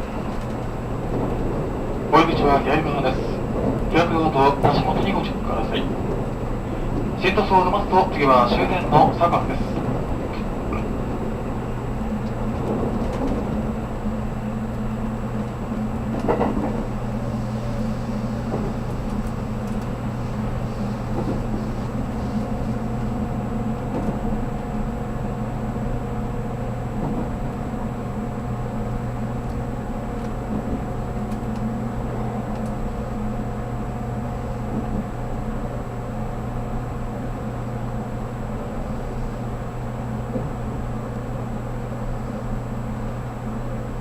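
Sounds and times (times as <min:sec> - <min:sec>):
constant tonal hum: 0:00.0 - 0:42.8
train wheels rumbling on rail: 0:00.0 - 0:44.0.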